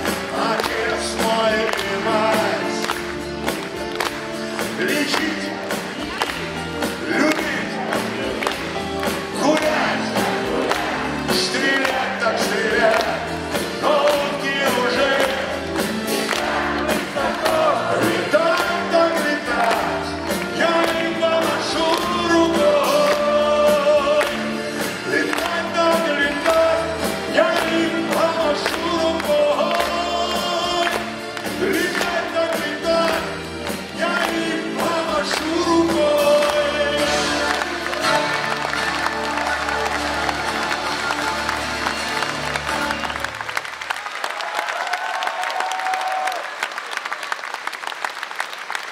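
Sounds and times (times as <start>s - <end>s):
man singing: 0.0s - 3.6s, 4.4s - 42.0s
steady drum beat: 0.0s - 42.0s.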